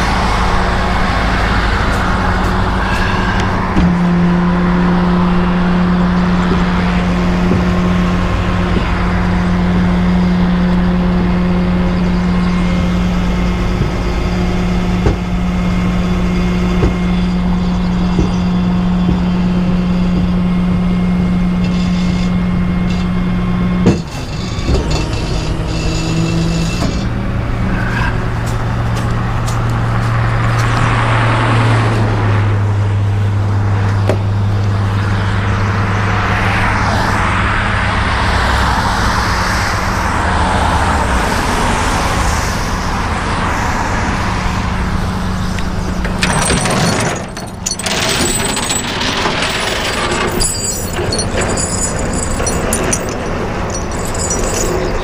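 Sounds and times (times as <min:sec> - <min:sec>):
truck engine running at raised revs: 0:00.0 - 0:55.0.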